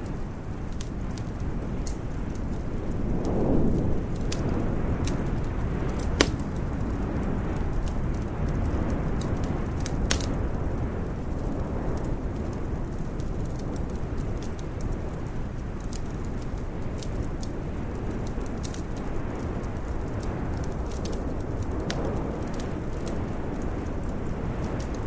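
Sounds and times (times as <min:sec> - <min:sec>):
sharp pops of fire: 0:00.0 - 0:25.0
wood fire crackling: 0:00.0 - 0:25.0.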